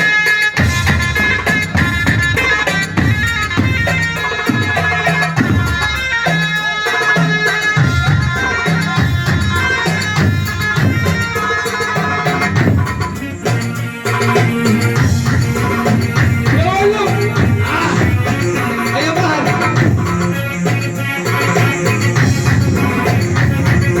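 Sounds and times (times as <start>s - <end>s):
reedy wind instrument melody: 0.0s - 24.0s
steady drum beat: 0.0s - 24.0s.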